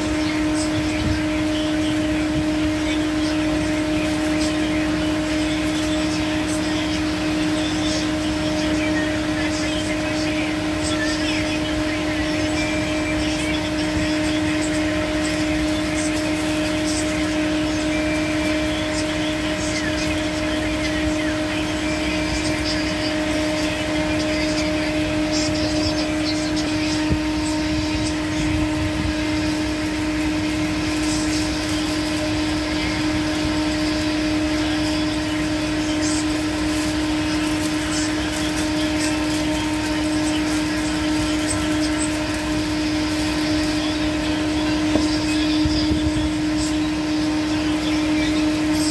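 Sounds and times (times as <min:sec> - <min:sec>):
steady machine hum: 0:00.0 - 0:48.9
plastic wrapper crinkling: 0:02.8 - 0:48.9.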